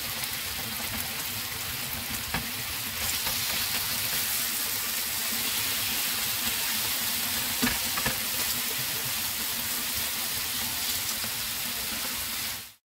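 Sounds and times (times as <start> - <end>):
meat sizzling in hot oil: 0.0 - 12.8.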